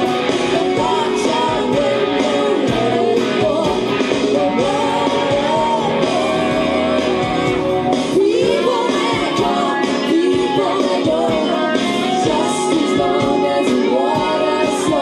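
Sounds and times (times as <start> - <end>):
band backing track with drums: 0.0 - 15.0
electric guitar solo: 0.0 - 15.0.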